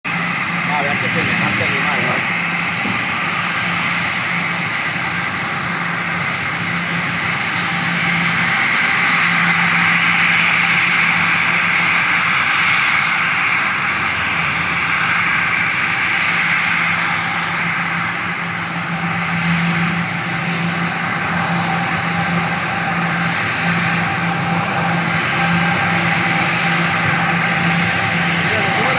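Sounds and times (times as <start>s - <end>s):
airliner engines roaring: 0.0s - 28.9s.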